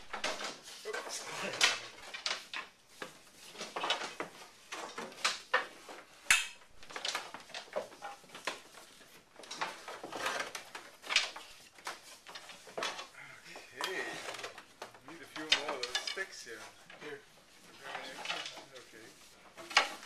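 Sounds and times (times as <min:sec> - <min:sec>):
wooden bars clattering and knocking: 0:00.0 - 0:20.0.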